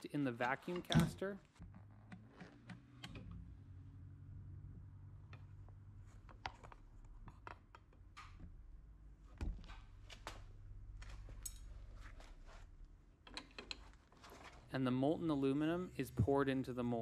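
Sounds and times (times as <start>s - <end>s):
faint low hum: 0.1s - 17.0s.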